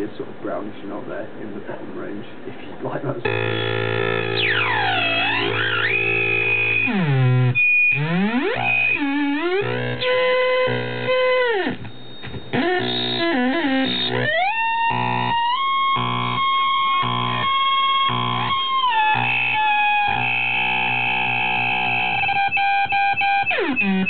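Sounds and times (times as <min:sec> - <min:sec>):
high squealing electronic tones: 0:03.2 - 0:24.0
low electronic buzz: 0:03.2 - 0:24.0.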